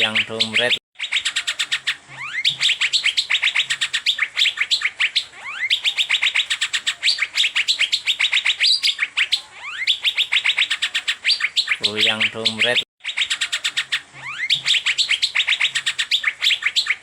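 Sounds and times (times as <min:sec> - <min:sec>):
bird rapid sharp chips: 0:00.0 - 0:17.0.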